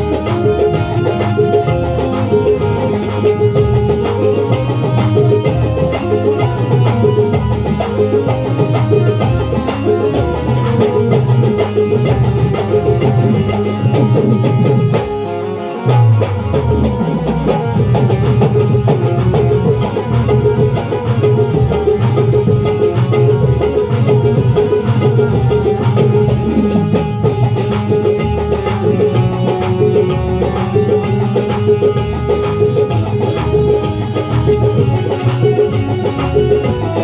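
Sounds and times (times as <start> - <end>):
music with heavy drum beat: 0.0 - 37.0.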